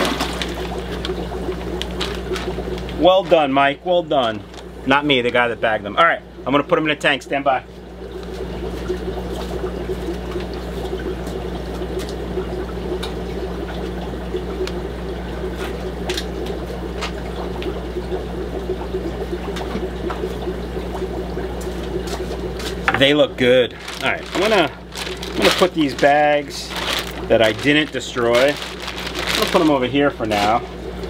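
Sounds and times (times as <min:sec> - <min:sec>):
steady low hum: 0:00.0 - 0:31.0
water running and trickling: 0:00.0 - 0:31.0.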